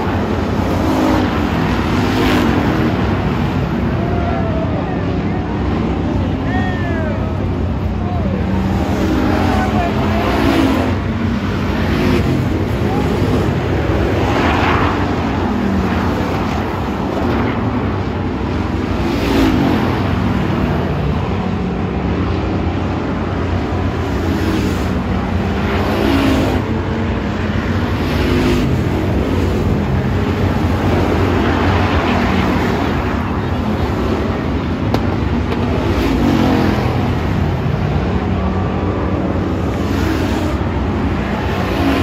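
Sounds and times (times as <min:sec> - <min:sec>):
race car engines droning: 0:00.0 - 0:42.0.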